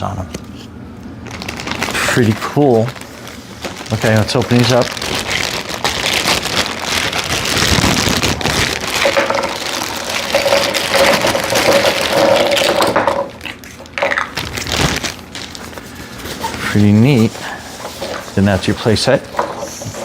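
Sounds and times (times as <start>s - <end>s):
plastic packaging crinkling: 1.2s - 20.0s.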